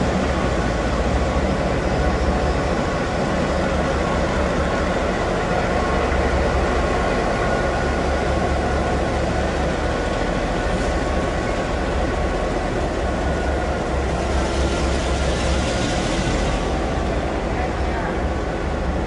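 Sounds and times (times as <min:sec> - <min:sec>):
electric locomotive humming: 0:00.0 - 0:19.0.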